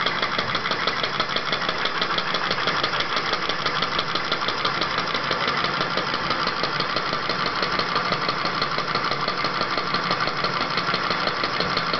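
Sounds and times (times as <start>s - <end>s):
model engine clicking and whirring: 0.0s - 11.9s.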